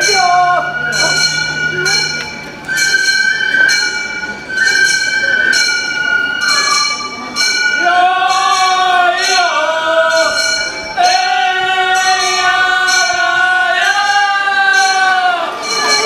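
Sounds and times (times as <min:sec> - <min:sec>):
bamboo flutes wavering notes: 0:00.0 - 0:16.0
small hand gongs ringing: 0:00.0 - 0:16.0.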